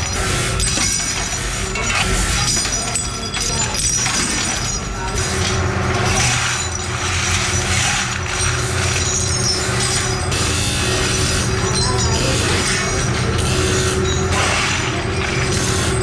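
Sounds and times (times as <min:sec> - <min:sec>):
machinery humming: 0:00.0 - 0:16.0
metal parts clinking and rattling: 0:00.0 - 0:16.0.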